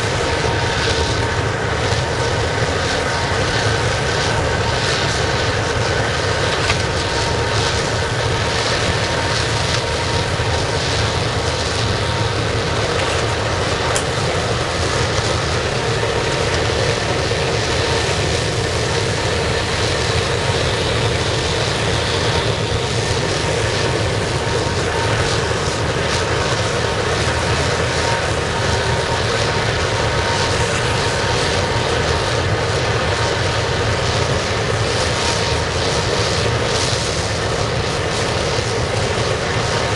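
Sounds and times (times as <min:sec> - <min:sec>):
burner flame roaring: 0:00.0 - 0:39.9.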